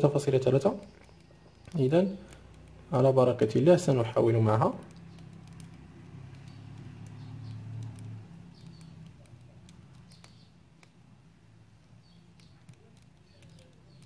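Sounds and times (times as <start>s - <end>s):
screwdriver clicks and squeaks: 0.0s - 3.7s, 4.6s - 11.2s, 11.9s - 14.0s.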